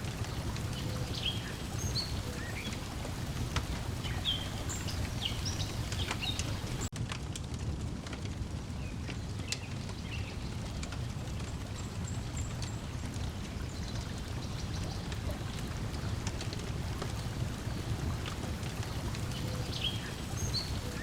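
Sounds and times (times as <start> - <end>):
water lapping: 0.0 - 6.9, 11.1 - 21.0
wood fire crackling: 0.0 - 21.0.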